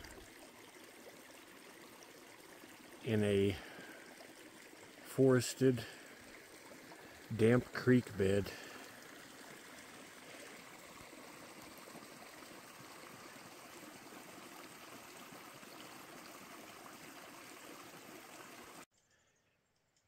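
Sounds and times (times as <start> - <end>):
creek rushing and trickling: 0.0 - 18.9.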